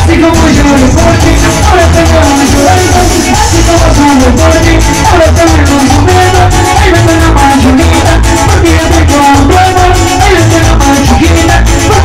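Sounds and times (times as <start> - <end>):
live latin dance band: 0.0 - 12.0.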